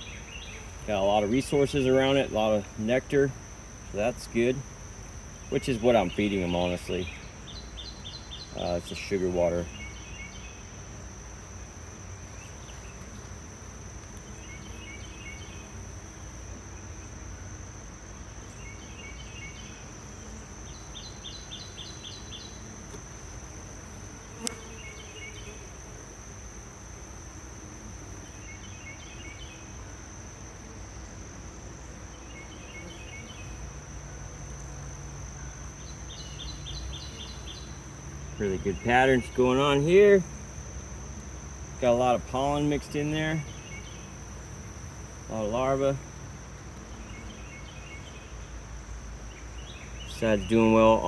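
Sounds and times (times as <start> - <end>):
high-pitched insect trill: 0.0 - 51.0
honey bees humming: 0.0 - 51.0.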